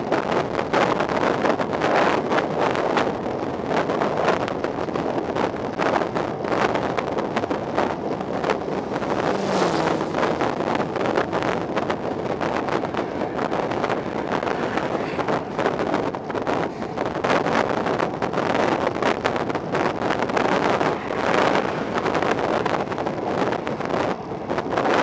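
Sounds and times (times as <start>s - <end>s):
tyre and road noise: 0.0s - 25.0s
wind buffeting microphone: 0.0s - 25.0s
car passing: 0.3s - 25.0s.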